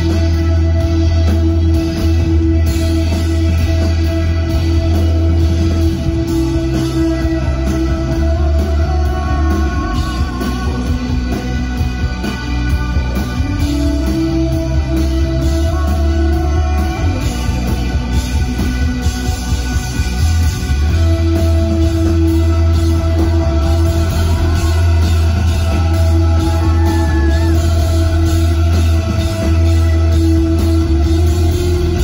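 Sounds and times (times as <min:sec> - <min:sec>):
bass notes: 0:00.0 - 0:32.0
drums: 0:00.0 - 0:32.0
electric guitars: 0:00.0 - 0:32.0.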